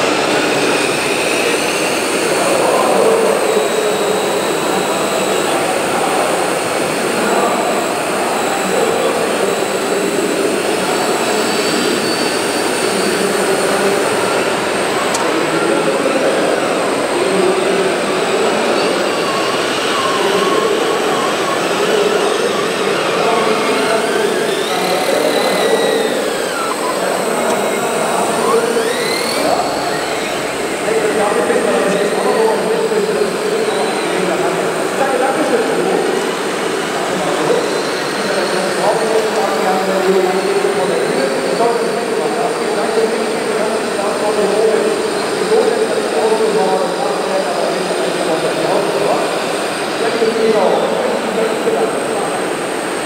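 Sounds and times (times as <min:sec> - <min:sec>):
exhibition hall din: 0:00.0 - 0:53.0
hydraulic pump whining: 0:00.0 - 0:53.0.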